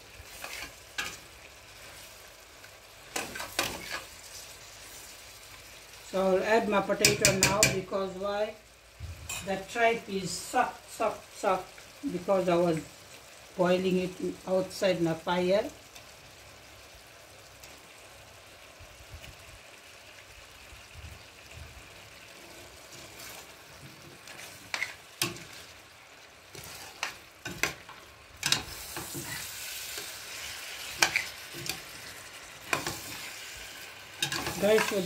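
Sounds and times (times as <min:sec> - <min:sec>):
curry sizzling in a pot: 0:00.0 - 0:35.0.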